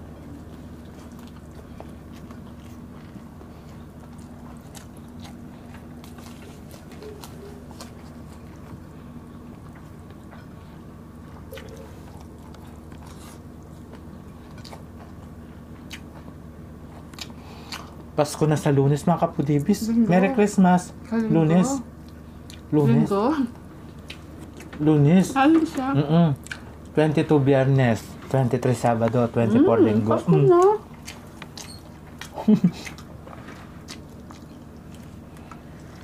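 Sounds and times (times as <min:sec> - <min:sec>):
people chewing and crunching: 0:00.0 - 0:19.8, 0:20.4 - 0:36.0
steady low hum: 0:00.0 - 0:36.0.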